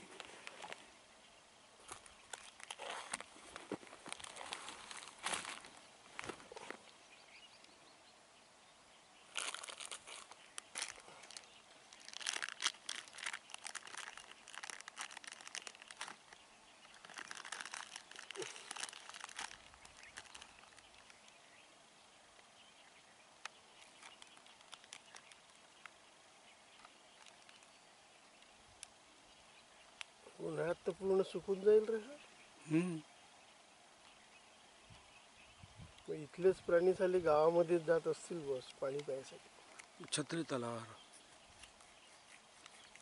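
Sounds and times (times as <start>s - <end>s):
crinkling crackling rustle: 0.0s - 1.0s, 1.8s - 7.8s, 9.2s - 21.6s, 22.2s - 32.4s, 35.9s - 43.0s.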